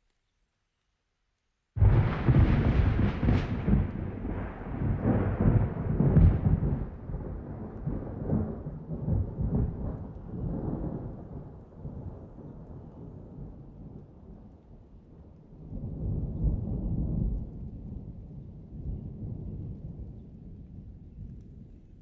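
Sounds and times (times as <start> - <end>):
thunder clap and rumble: 1.8 - 14.5, 15.6 - 21.8.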